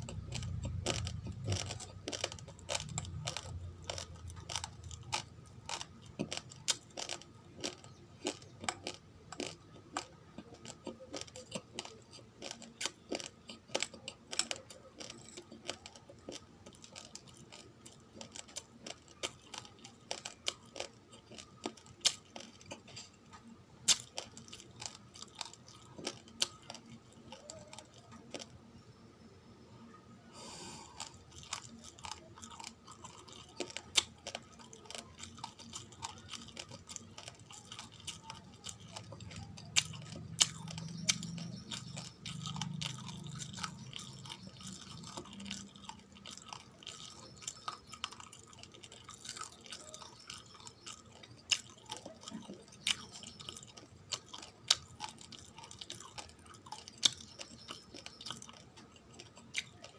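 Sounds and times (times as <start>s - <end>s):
raw rice grains being chewed: 0.0s - 28.6s, 30.4s - 59.9s.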